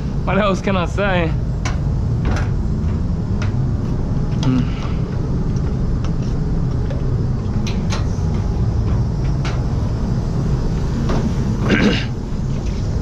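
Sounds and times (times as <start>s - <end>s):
ventilation low rumble: 0.0s - 13.0s.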